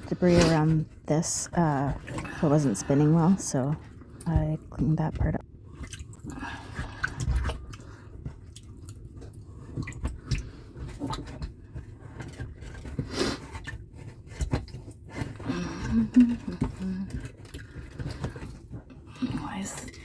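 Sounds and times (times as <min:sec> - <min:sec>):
wet scraping: 0:00.0 - 0:20.0.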